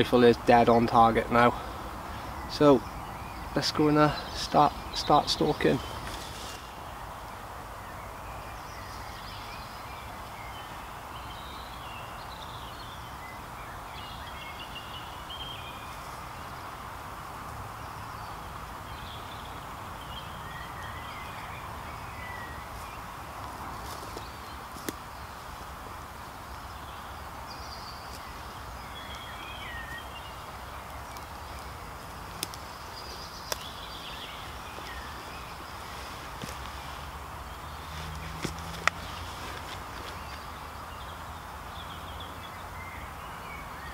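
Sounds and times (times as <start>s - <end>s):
birds singing: 0.0s - 43.9s
outdoor background hiss: 0.0s - 43.9s.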